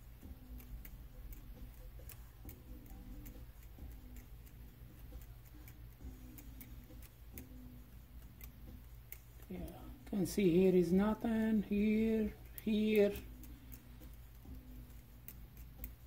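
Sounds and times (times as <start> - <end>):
small clicks and ticks: 0.0 - 10.2, 11.4 - 16.0
low electrical hum: 0.0 - 16.0.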